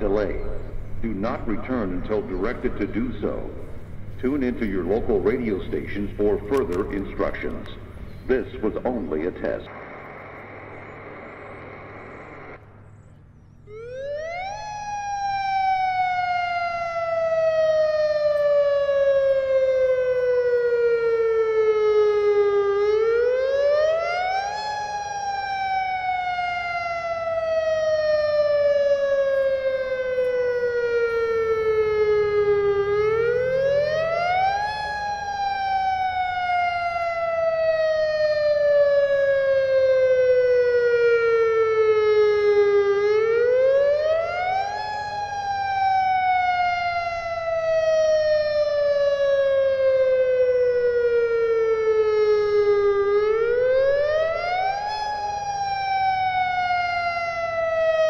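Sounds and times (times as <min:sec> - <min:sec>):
wailing warning siren: 0:00.0 - 0:58.0.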